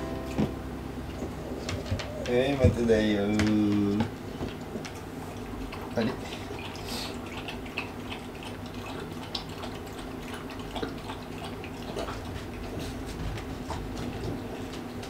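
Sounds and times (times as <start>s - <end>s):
dog eating wet food: 1.1s - 15.0s.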